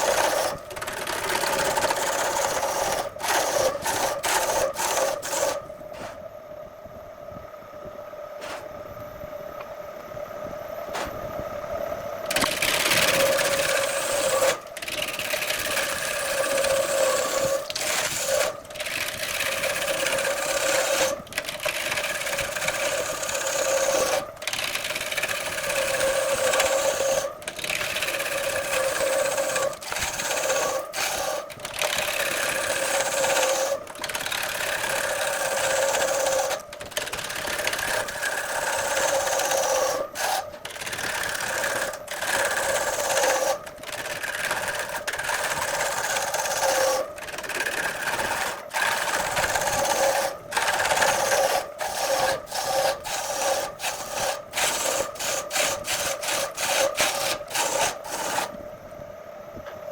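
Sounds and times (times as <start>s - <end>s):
power tool motor hum: 0.0s - 6.2s, 12.3s - 58.6s
wood being cut or sanded: 0.0s - 6.2s, 12.3s - 58.5s.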